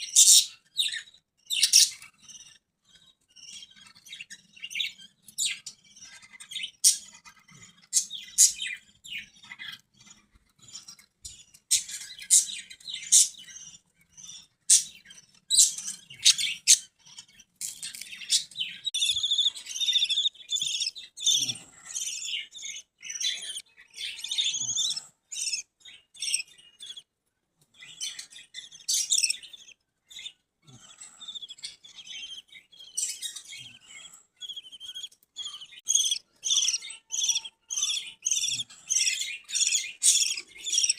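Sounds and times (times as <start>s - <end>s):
budgerigars chirping and chattering: 0.0s - 27.1s, 27.7s - 40.9s.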